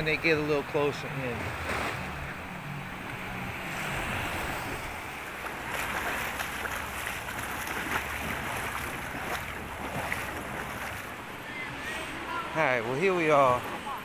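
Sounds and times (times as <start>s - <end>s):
small surf washing on sand: 0.0s - 14.0s.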